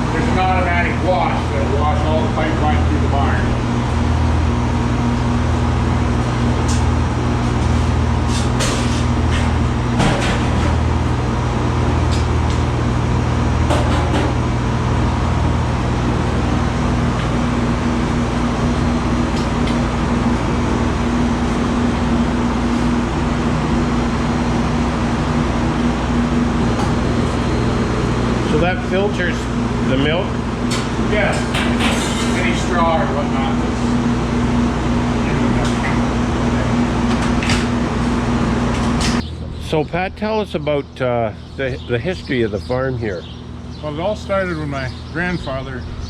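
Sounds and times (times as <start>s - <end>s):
milking machinery humming: 0.0s - 46.0s.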